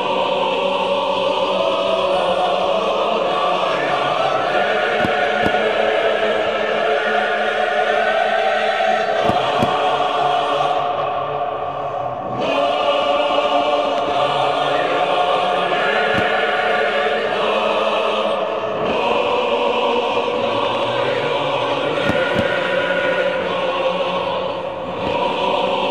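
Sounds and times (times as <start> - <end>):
choir singing held chords: 0.0 - 25.9.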